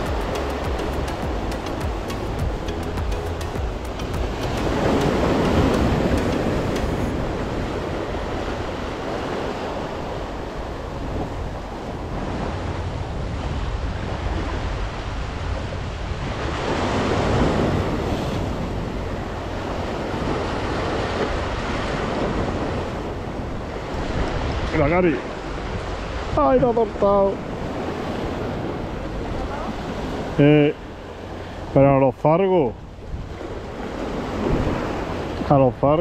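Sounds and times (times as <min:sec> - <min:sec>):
sea surf breaking over rocks: 0:00.0 - 0:36.0.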